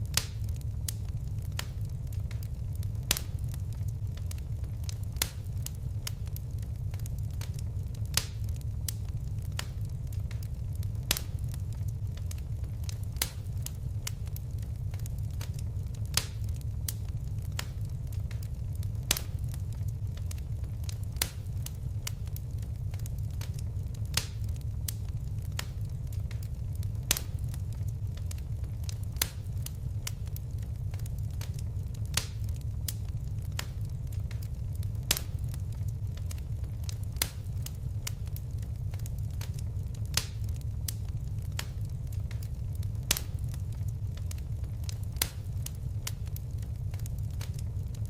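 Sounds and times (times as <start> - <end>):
fire crackling and popping: 0.0 - 48.0.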